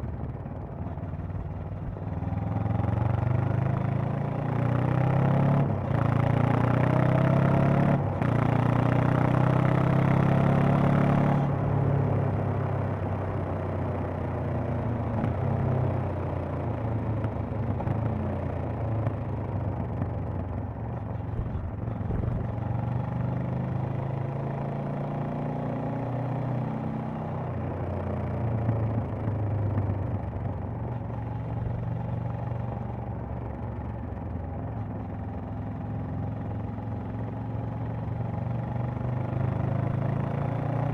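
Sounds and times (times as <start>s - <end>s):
motorcycle engine under throttle: 0.0s - 40.9s.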